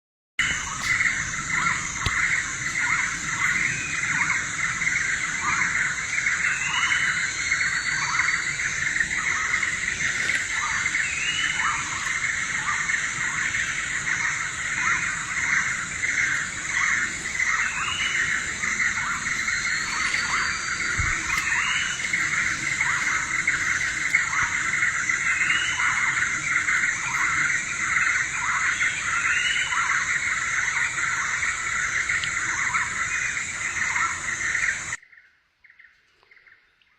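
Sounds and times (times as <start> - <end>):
chorus of birds calling: 0.4 - 35.0
high insect drone: 0.4 - 35.0
rising bird chirp: 0.4 - 35.0.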